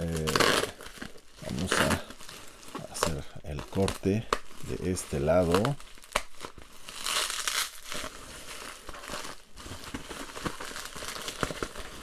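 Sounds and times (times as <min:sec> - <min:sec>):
bubble wrap and tape crinkling: 0:00.0 - 0:12.0
wrapping rustling: 0:00.0 - 0:12.0.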